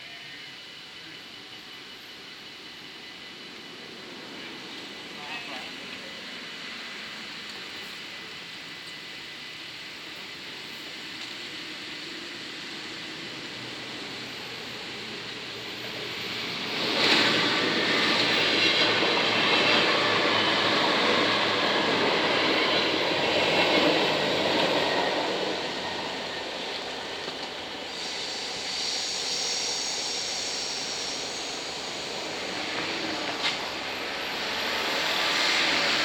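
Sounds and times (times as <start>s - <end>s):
train wheels rushing on rails: 0.0s - 36.0s.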